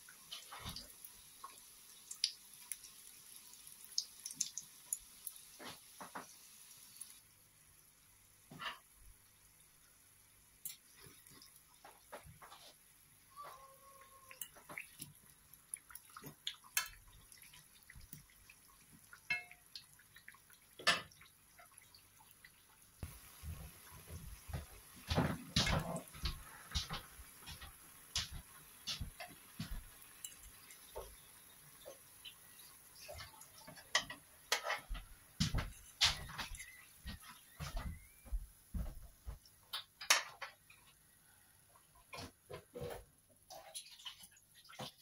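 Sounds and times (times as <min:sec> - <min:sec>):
oil sizzling and popping: 0:00.0 - 0:45.0.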